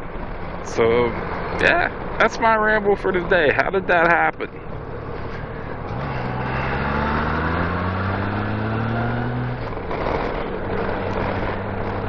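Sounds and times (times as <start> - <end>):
wind and road noise: 0.0 - 12.0
motorcycle engine accelerating: 0.2 - 12.0.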